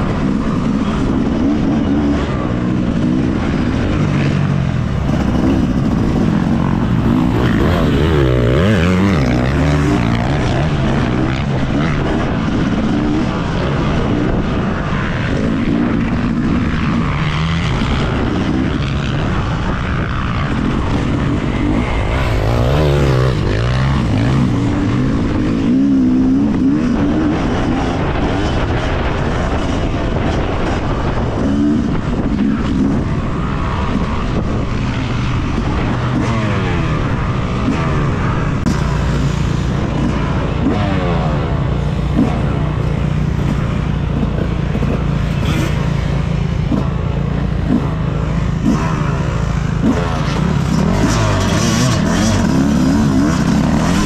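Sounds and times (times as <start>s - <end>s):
motocross bike engine revving: 0.0s - 54.0s
second dirt bike engine: 0.0s - 54.0s.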